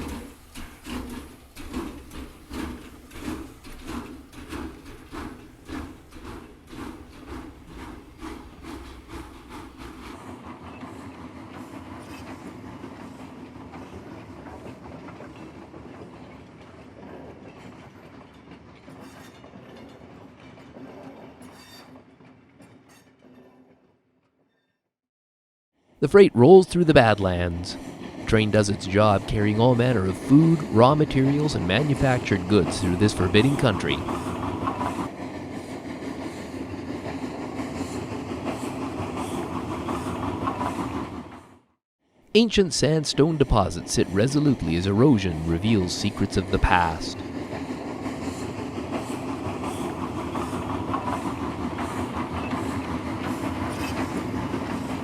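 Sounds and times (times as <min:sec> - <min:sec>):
model train wheels clicking on track: 0:00.0 - 0:21.2, 0:27.0 - 0:41.1, 0:43.4 - 0:55.0.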